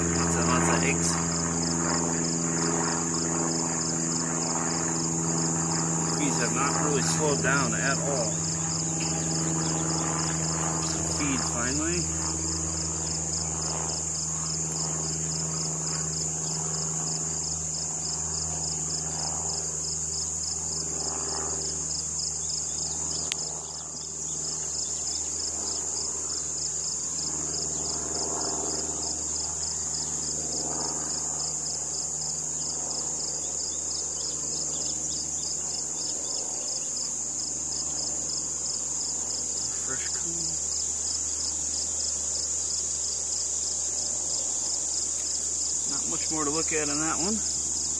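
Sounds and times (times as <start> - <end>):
crickets trilling: 0.0 - 47.9
honeybees humming: 0.0 - 47.9.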